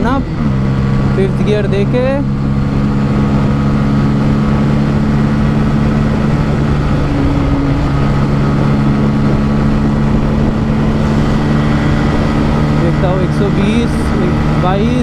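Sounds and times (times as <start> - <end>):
motorcycle engine droning: 0.0 - 15.0
wind on microphone: 2.4 - 15.0.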